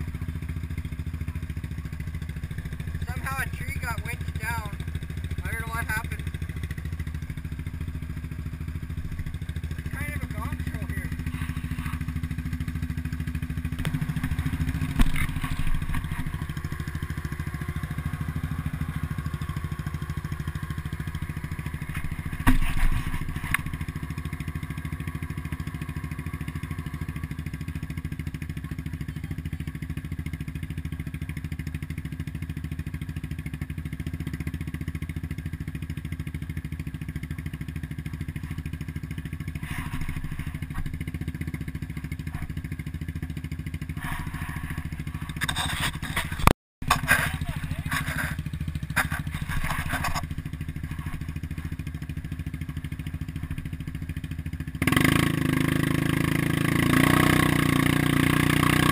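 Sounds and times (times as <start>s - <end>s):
atv engine idling: 0.0s - 58.9s.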